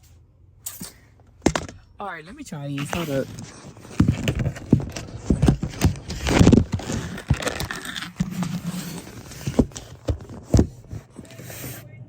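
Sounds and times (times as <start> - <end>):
handling knocks taps and rustles: 0.7 - 1.9, 2.7 - 11.8.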